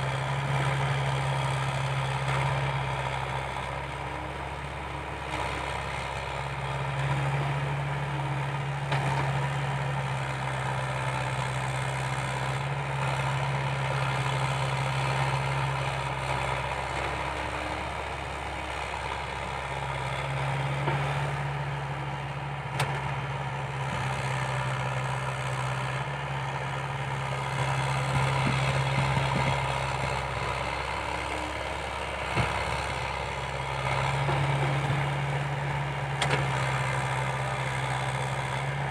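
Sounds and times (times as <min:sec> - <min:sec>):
excavator diesel engine under load: 0:00.0 - 0:38.9.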